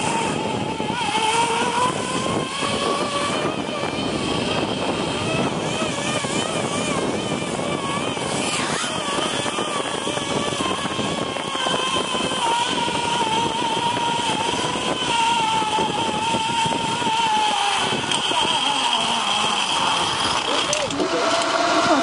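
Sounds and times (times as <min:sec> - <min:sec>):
zipline pulleys whining: 0:00.0 - 0:22.0.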